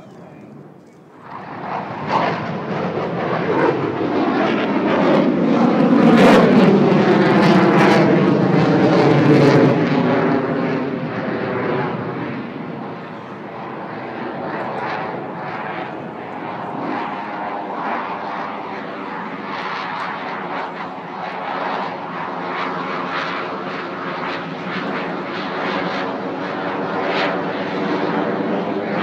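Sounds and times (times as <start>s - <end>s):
jets flying low overhead: 0.0s - 29.0s.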